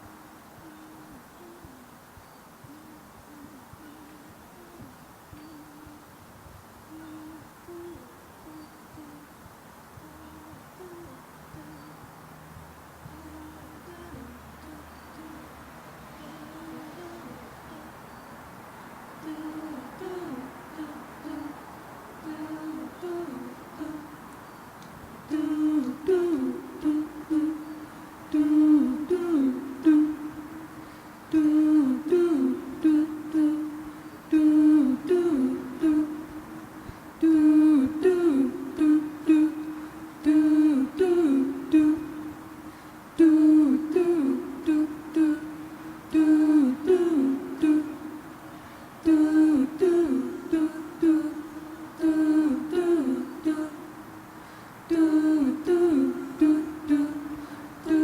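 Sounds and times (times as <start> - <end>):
person humming a cappella: 0.0 - 18.3, 19.0 - 58.0.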